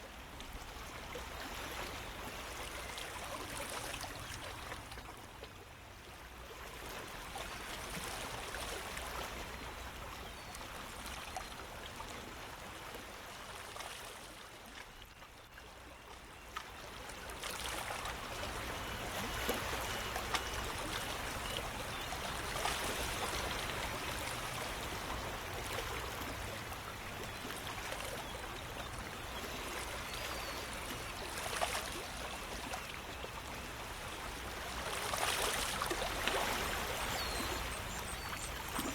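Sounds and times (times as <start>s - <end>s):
stream trickling and gurgling: 0.0s - 38.9s.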